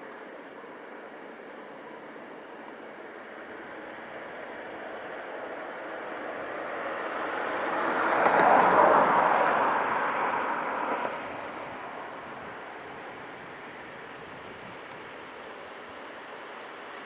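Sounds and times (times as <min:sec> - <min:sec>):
passenger train passing: 0:00.6 - 0:14.6.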